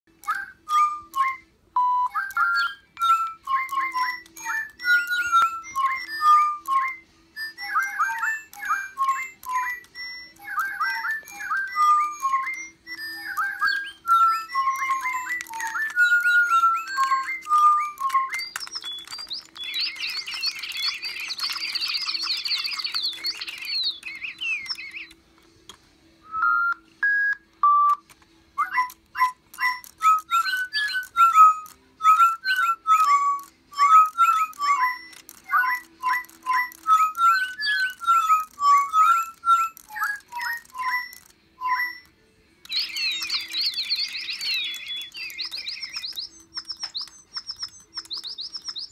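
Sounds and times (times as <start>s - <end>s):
whistled notes: 0.1s - 25.3s, 26.2s - 48.9s
electronic toy birds chirping: 0.1s - 25.7s, 26.3s - 48.9s.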